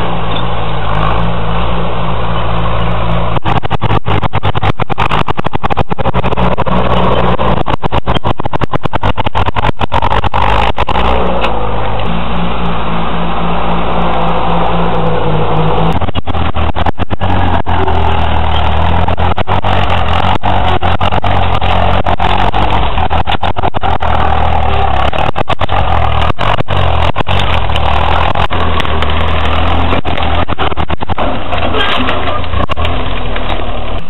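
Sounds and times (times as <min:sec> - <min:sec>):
tractor engine running under load: 0:00.0 - 0:34.0.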